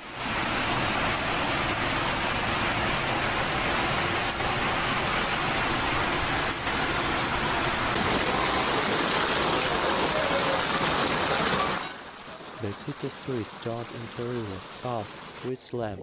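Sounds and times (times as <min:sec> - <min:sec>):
rush of flood water: 0:00.0 - 0:15.5.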